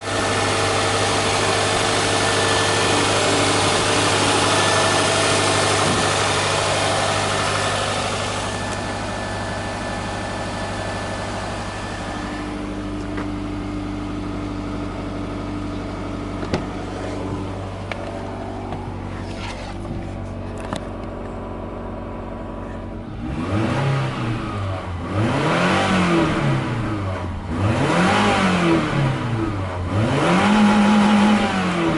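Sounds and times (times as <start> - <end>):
car engine idling and revving: 0.0 - 31.9.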